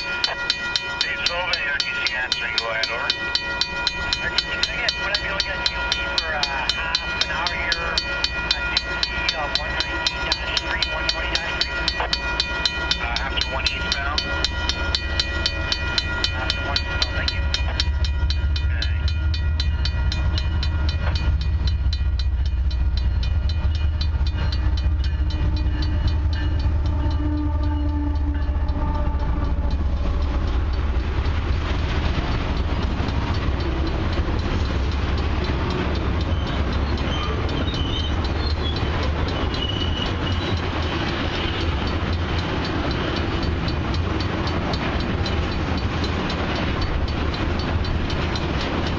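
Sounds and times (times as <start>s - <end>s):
diesel locomotive rumble: 0.0s - 48.9s
steady ringing tones: 0.0s - 48.9s
steel wheels clattering on rail: 0.0s - 48.9s.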